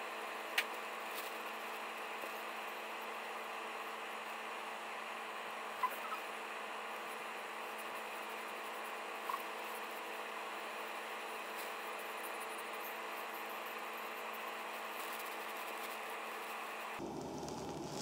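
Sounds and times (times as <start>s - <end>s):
room tone hiss and hum: 0.0s - 18.0s.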